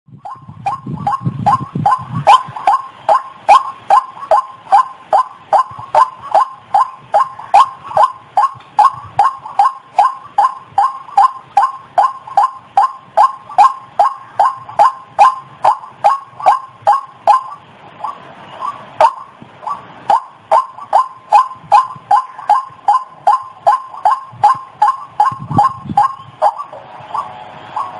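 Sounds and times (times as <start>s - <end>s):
waterhen calls: 0.2s - 27.9s.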